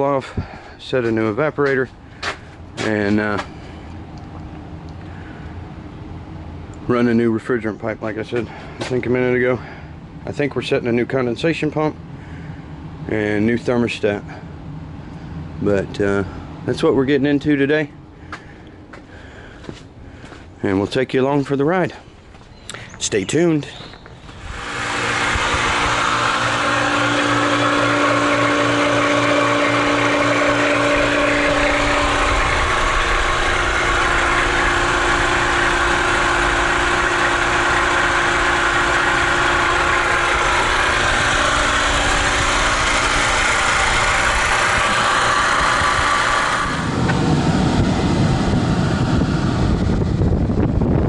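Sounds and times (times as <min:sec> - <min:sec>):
air conditioning equipment hum: 0:00.0 - 0:51.0
low rumbling noise: 0:00.0 - 0:51.0.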